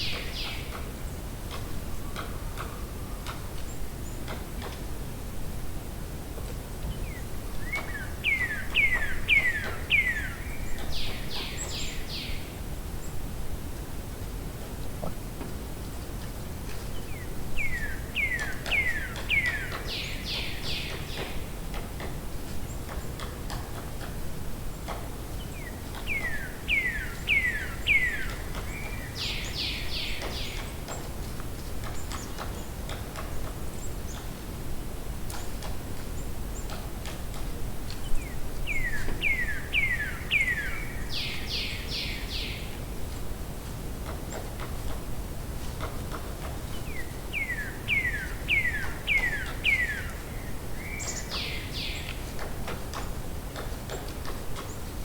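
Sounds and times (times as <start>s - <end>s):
songbird singing: 0.0s - 4.8s, 6.8s - 13.4s, 16.0s - 43.3s, 46.1s - 55.0s
steady background hiss: 0.0s - 55.0s.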